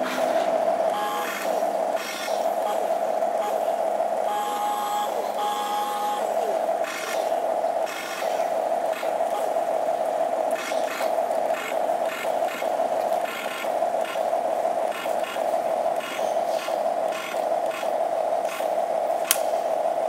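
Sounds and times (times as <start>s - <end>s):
toy excavator motors whirring: 0.0s - 19.8s.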